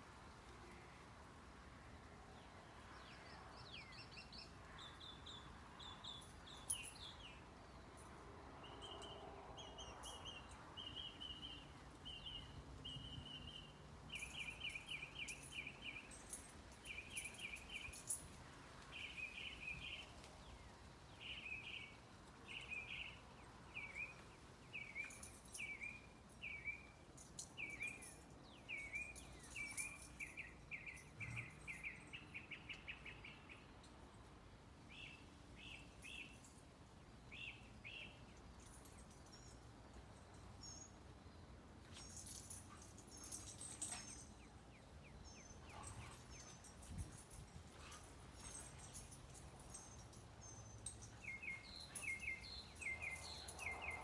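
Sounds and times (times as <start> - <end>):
songbirds chirping and trilling: 2.0 - 54.0.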